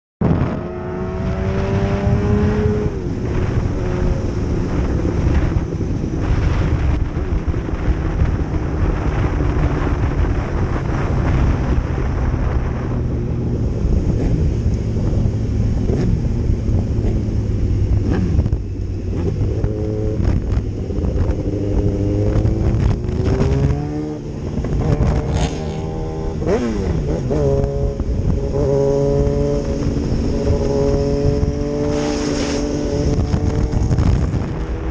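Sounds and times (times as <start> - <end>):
racing motorcycle engine shifting gears: 0.2 - 34.9.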